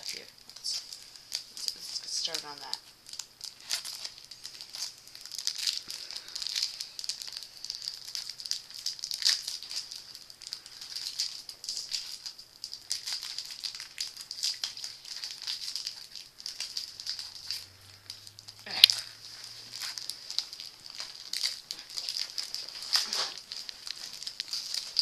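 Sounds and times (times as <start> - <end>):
plastic wrapper crinkling: 0.0 - 25.0.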